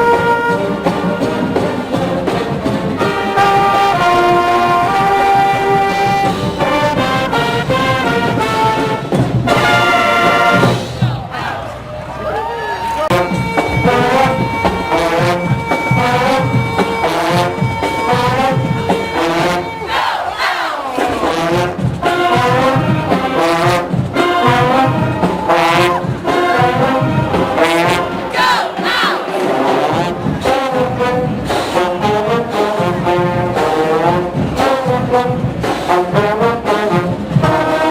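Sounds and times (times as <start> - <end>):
marching band brass playing: 0.0 - 12.1, 12.9 - 37.9.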